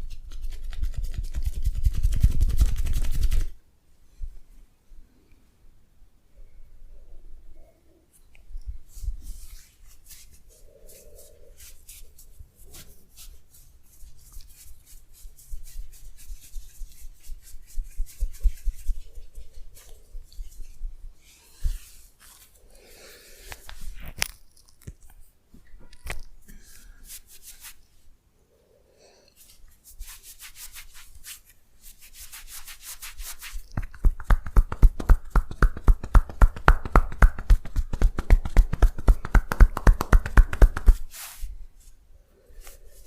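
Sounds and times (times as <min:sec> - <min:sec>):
hands rubbing skin and hair: 0:00.0 - 0:03.6, 0:08.1 - 0:28.1, 0:29.4 - 0:42.0, 0:42.6 - 0:43.0.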